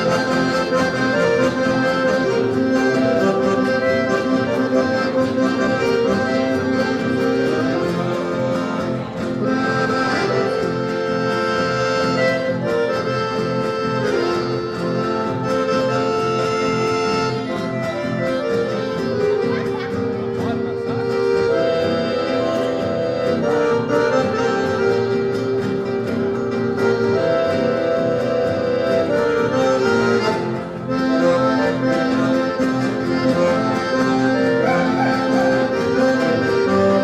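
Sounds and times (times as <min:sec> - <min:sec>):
accordion playing chords: 0:00.0 - 0:37.0.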